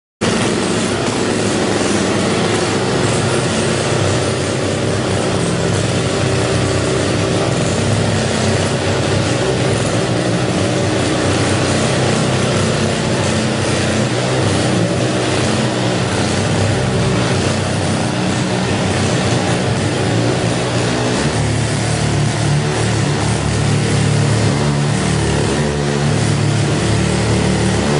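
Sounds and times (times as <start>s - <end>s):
small engine running: 0.2s - 27.9s.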